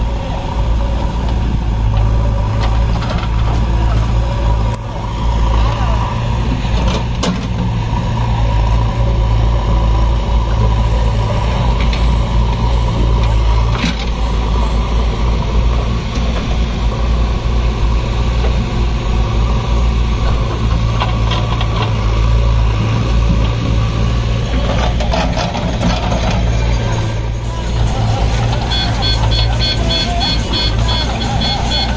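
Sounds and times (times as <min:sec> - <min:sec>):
heavy diesel engine rumbling: 0:00.0 - 0:31.9.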